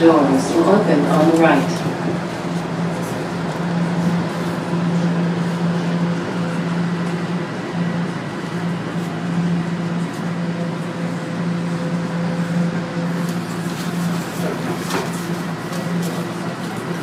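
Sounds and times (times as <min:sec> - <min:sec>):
train low hum: 0:00.0 - 0:17.0
train running on track: 0:00.0 - 0:17.0.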